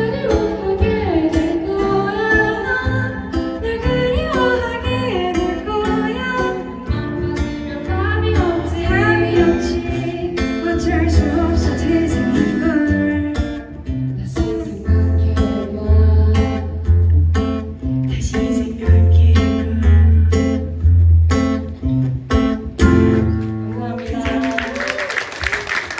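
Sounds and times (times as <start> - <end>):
woman singing: 0.0 - 17.1, 18.0 - 20.8, 23.8 - 25.1.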